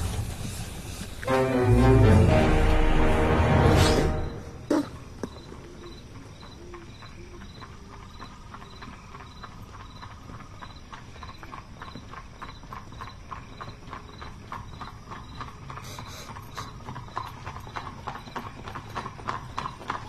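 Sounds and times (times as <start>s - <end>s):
horse hooves clip-clopping: 0.0s - 3.1s, 4.8s - 20.0s.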